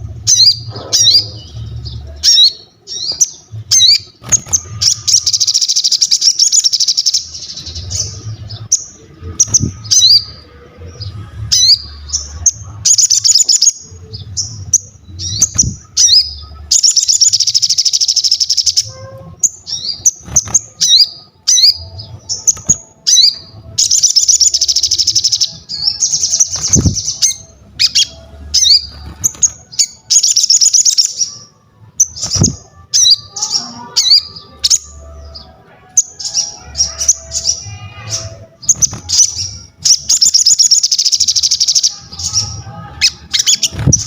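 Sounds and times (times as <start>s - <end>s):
songbird trilling and chirping: 0.1s - 44.0s.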